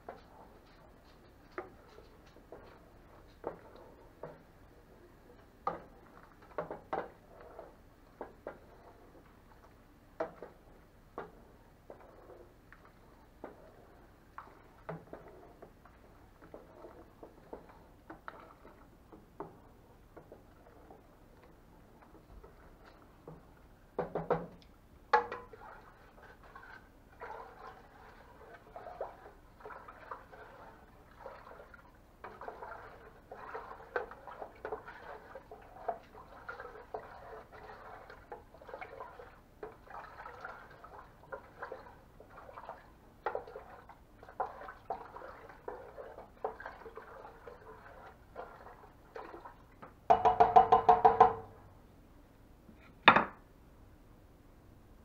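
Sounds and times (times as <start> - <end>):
wooden spoon scraping a pot: 0.0 - 23.5, 25.1 - 49.3.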